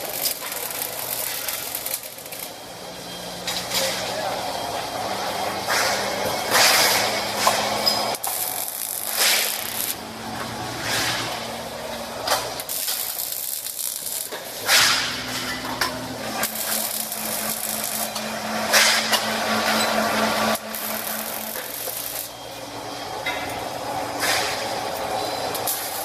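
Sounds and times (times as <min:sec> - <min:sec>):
welding arc crackling and hissing: 0:00.0 - 0:04.3, 0:05.6 - 0:26.0
steady machine hum: 0:00.0 - 0:26.0.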